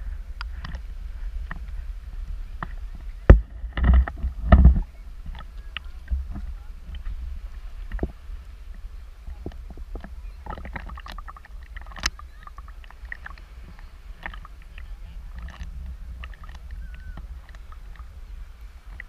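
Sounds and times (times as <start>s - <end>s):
seawater lapping and sloshing: 0.0s - 19.0s
small water splashes and clicks: 0.4s - 19.0s.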